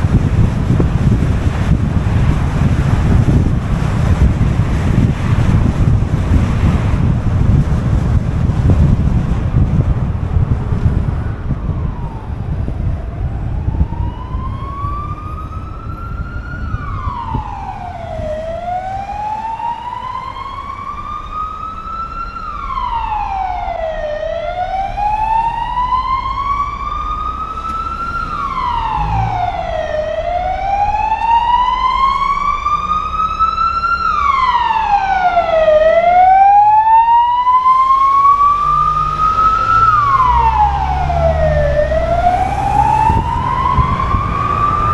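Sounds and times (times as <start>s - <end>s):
emergency siren wailing: 0.0s - 44.9s
low wind: 0.0s - 44.9s
road rumble: 0.0s - 44.9s.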